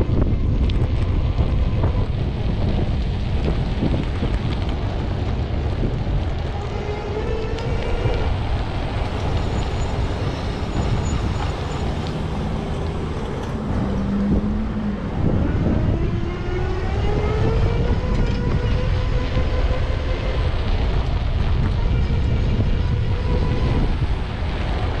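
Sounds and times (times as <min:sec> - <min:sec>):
city street traffic: 0:00.0 - 0:25.0
wind rumble on microphone: 0:00.0 - 0:25.0.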